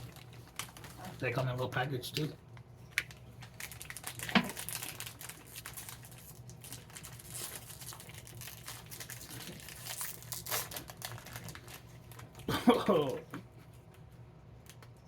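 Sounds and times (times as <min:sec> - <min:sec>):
plastic wrapper crinkling: 0:00.0 - 0:12.5.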